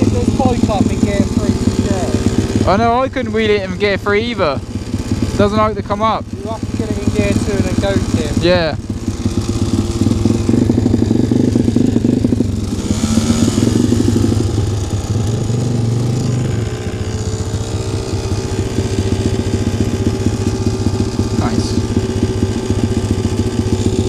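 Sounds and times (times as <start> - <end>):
motorcycle engine revving and idling: 0.0 - 24.0.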